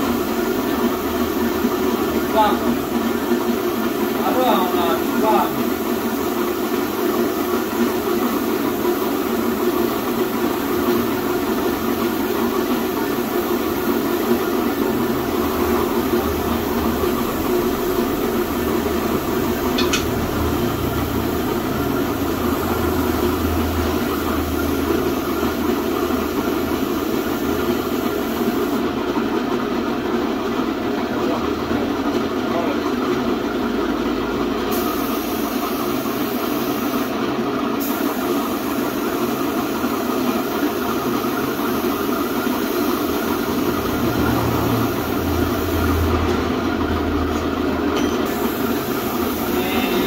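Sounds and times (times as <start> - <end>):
spray gun hissing: 0.0 - 28.9, 34.7 - 37.2, 37.8 - 45.9, 48.2 - 50.0
air compressor running: 0.0 - 50.0.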